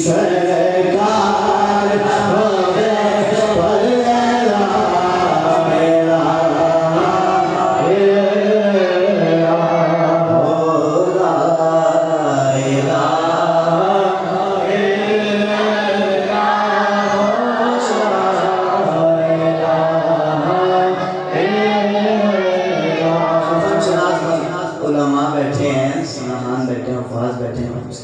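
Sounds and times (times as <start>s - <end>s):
person singing devotional chant: 0.0s - 28.0s.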